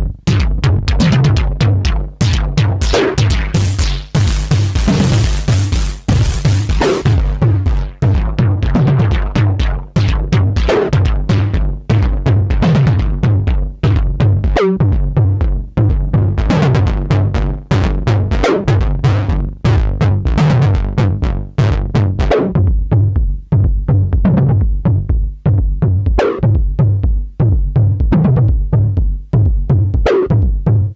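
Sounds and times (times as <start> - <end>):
deep bass pulse: 0.0 - 30.9
electronic drum beat: 0.0 - 30.9.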